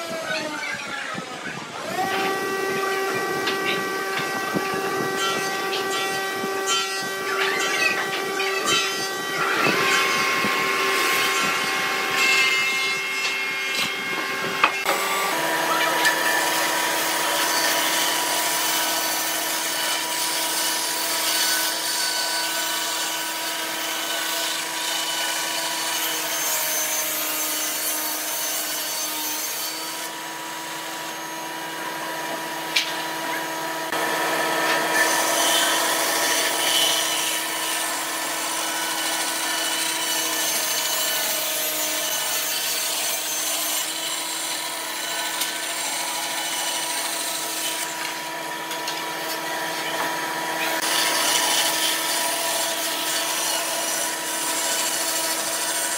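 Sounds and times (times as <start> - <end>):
band saw cutting wood: 0.0 - 55.9.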